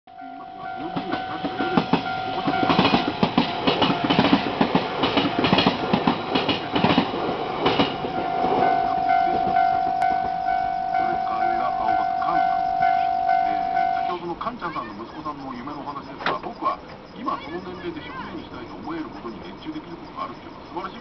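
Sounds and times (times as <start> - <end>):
crossing warning bell ringing: 0.1 - 21.0
train wheels clattering: 0.6 - 21.0.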